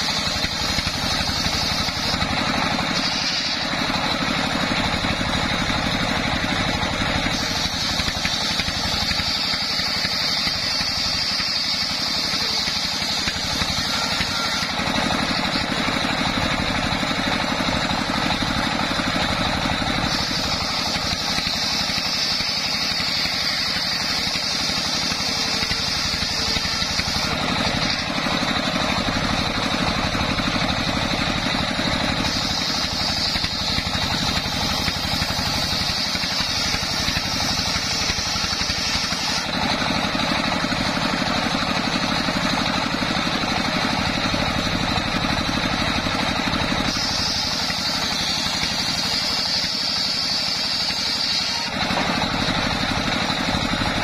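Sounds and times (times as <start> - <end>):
diesel engine running: 0.0 - 54.0
saw blade whining in wood: 0.0 - 54.0.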